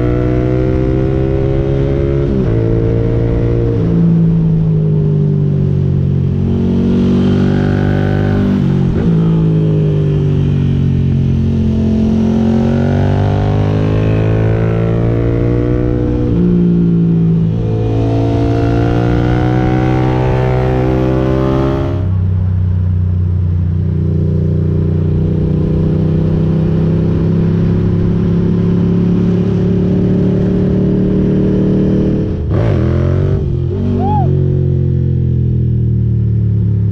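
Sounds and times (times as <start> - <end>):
motorcycle engine revving: 0.0 - 22.3, 23.6 - 36.9.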